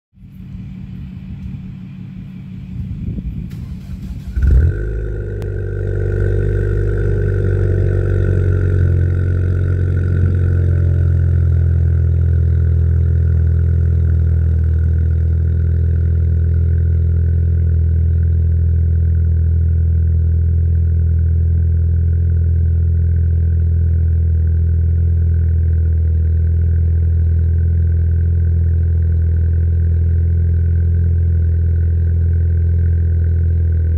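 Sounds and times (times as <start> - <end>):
car engine starting and idling: 0.2 - 33.9.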